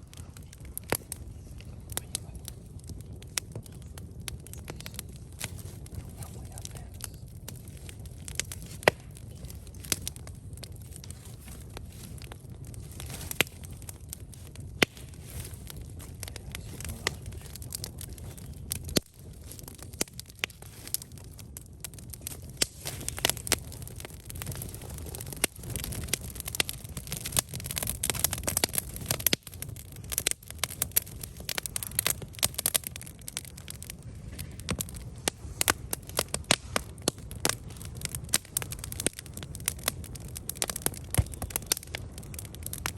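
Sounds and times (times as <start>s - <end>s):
campfire crackling and popping: 0.0s - 42.9s
low hiss of flames: 0.0s - 42.9s.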